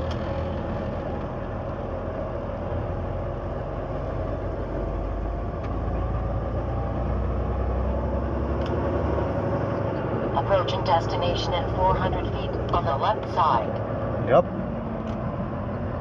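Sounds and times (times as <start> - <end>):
road noise: 0.0 - 16.0
truck diesel engine: 0.0 - 16.0.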